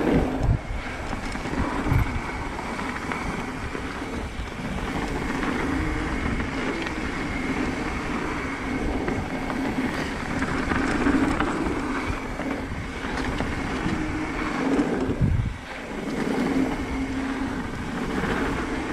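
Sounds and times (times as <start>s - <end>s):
bike rattle: 0.0s - 18.9s
bike tyres on dirt: 0.0s - 18.9s
wind on microphone: 0.0s - 18.9s.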